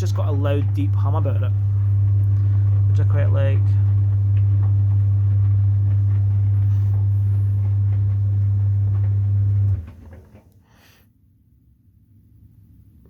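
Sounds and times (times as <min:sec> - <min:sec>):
tumble dryer humming: 0:00.0 - 0:10.6.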